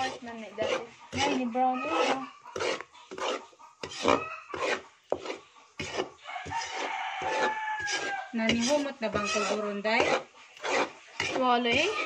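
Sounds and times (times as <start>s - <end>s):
spatula scraping a metal pan: 0.0s - 12.0s.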